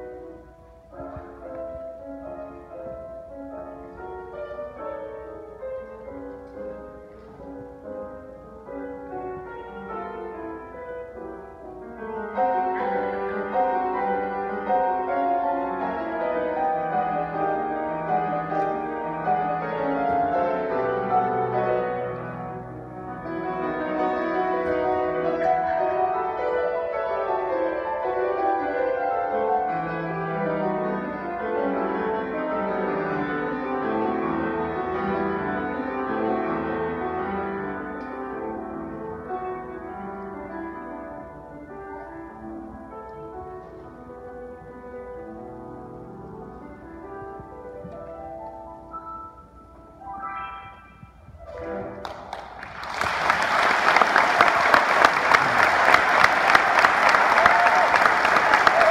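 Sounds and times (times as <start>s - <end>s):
solo grand piano piece: 0.0s - 58.9s.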